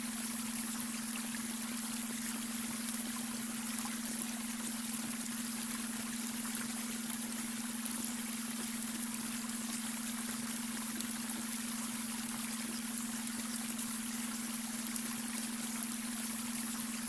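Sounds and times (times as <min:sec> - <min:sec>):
low steady hum tone: 0:00.0 - 0:17.0
water trickling over stones: 0:00.0 - 0:17.0.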